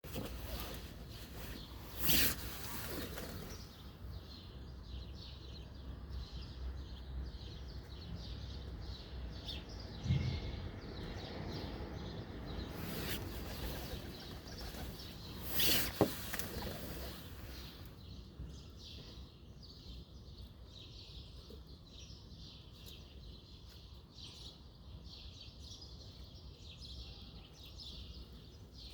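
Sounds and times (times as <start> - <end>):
birds chirping: 0.1 - 28.9.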